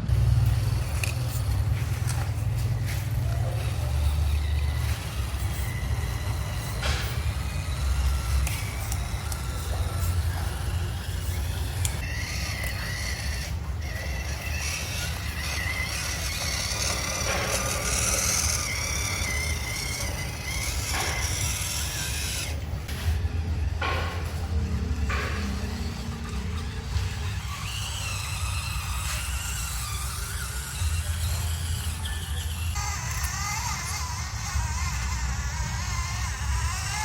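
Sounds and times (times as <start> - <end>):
electric motor and gears whining: 0.0 - 37.0.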